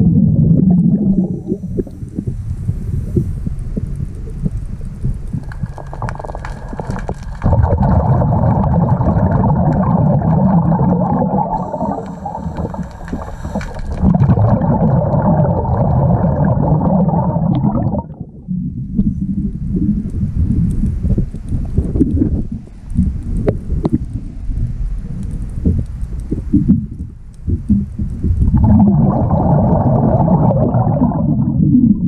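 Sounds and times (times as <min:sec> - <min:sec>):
underwater regulator bubbling: 0:00.0 - 0:24.5, 0:25.2 - 0:32.0.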